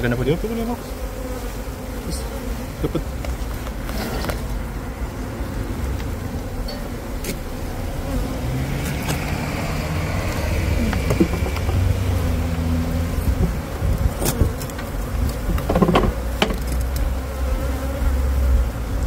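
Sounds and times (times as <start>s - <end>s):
bees buzzing: 0.0s - 19.0s
vehicle engine hum: 2.8s - 19.0s.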